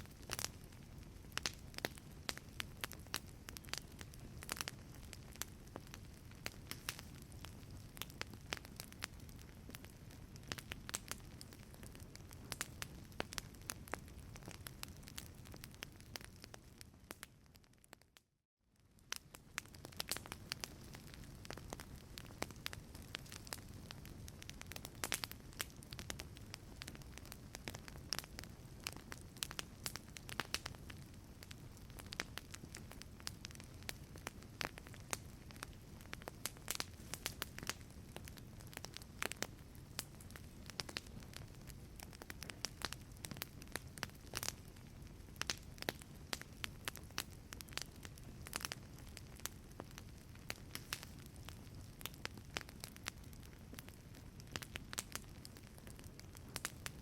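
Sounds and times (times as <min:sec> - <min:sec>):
wood fire crackling: 0:00.0 - 0:18.2, 0:18.8 - 0:57.0.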